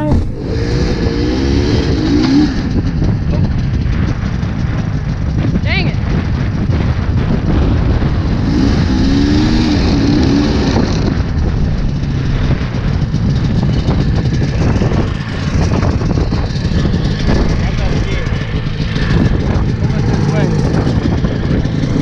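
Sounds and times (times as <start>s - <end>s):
loud low rumble: 0.0s - 22.0s
snowmobile engine running: 0.0s - 22.0s.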